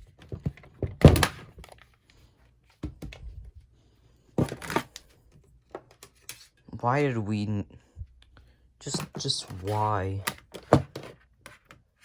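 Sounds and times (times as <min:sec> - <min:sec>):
rustling of handled objects: 0:00.0 - 0:06.7, 0:08.1 - 0:12.0.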